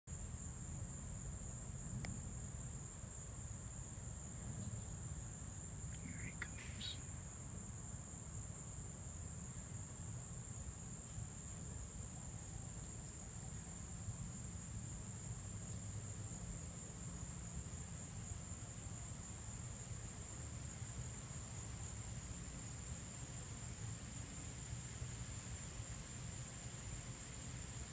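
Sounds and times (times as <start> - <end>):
insect chorus: 0.1 - 27.9.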